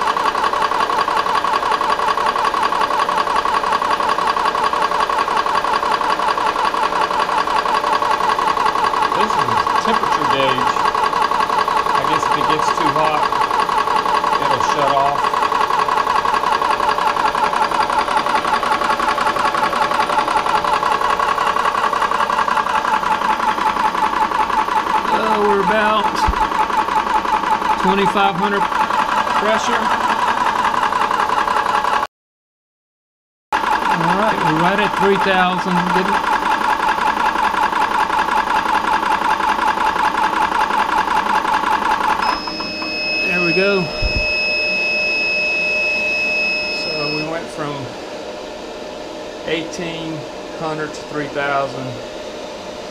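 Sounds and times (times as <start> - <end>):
air compressor pulsing: 0.0 - 32.1, 33.6 - 52.9.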